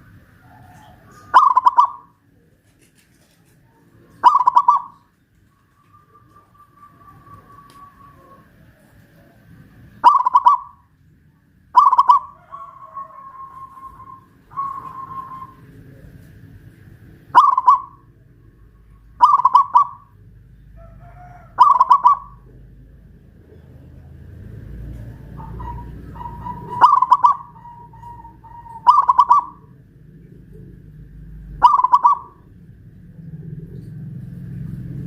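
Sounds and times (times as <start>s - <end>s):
dove cooing: 0.0s - 10.9s, 11.7s - 35.0s.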